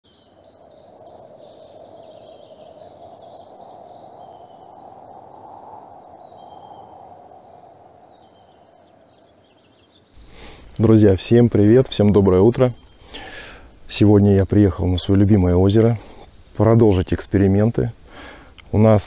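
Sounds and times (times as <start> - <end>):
small birds chirping: 0.0 - 19.0
soft outdoor hiss: 0.1 - 19.0.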